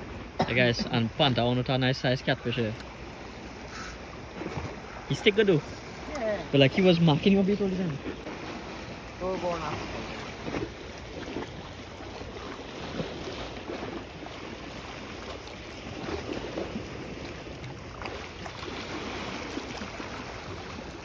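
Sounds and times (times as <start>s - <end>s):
sea water sloshing: 0.0s - 21.0s.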